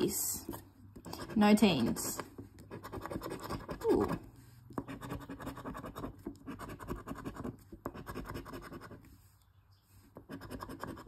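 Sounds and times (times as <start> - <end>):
scratching a scratch-off ticket: 1.0 - 9.1, 10.1 - 11.0.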